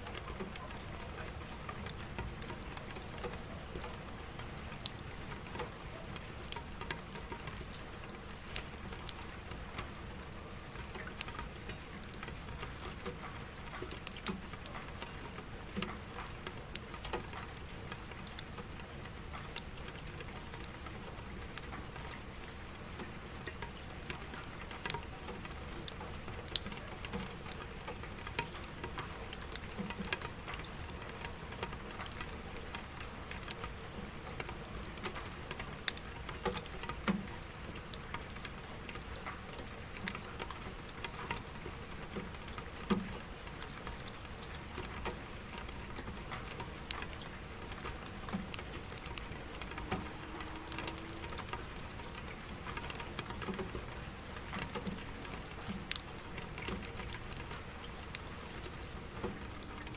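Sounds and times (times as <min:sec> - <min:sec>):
rain drops on a hard surface: 0:00.0 - 0:59.9.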